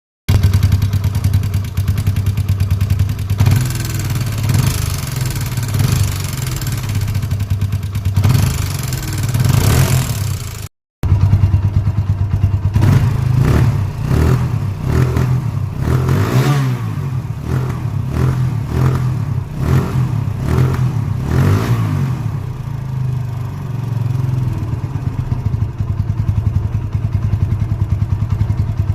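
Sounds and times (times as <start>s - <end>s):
motorcycle engine revving: 0.3s - 28.9s.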